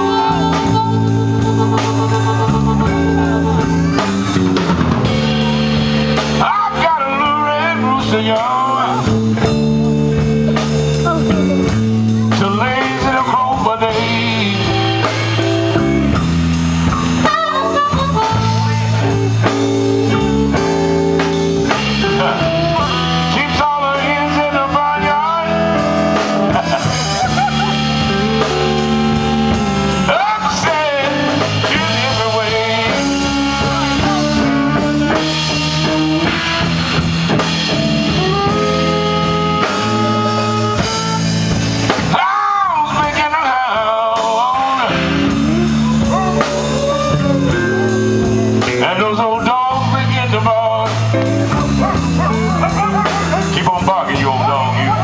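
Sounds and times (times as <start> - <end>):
guitar bent notes: 0.0 - 55.0
slow blues band: 0.0 - 55.0.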